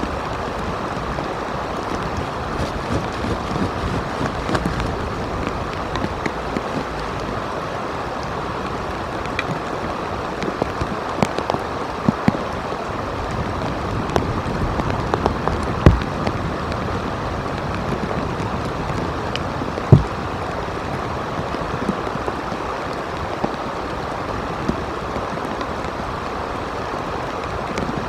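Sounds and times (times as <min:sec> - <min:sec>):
steady rain hiss: 0:00.0 - 0:28.0.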